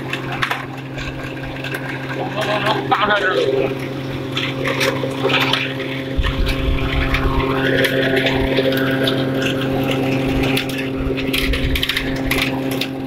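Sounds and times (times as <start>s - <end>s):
feed grinder humming: 0.0s - 13.0s.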